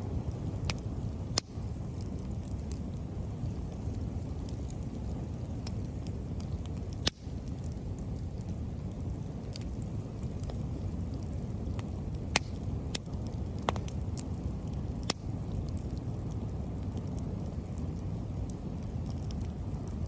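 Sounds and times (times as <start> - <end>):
fire pops and crackles: 0.0 - 20.0
low fire rumble: 0.0 - 20.0.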